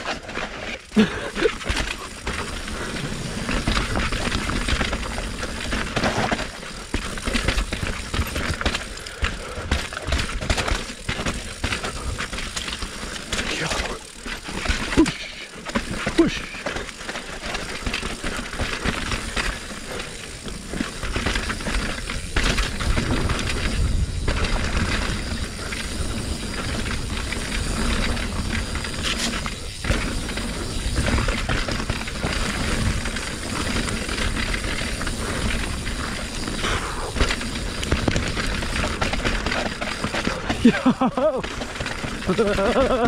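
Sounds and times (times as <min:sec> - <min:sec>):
bike rattling and knocking: 0:00.0 - 0:43.0
bike tyres rolling over rocks: 0:00.0 - 0:43.0.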